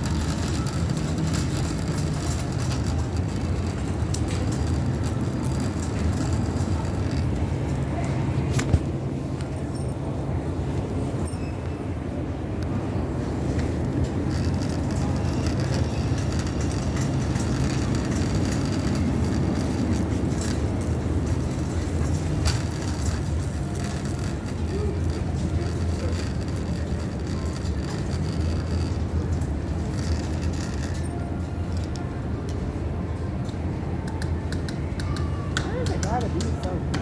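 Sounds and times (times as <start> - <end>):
steady low rumble: 0.0 - 34.1.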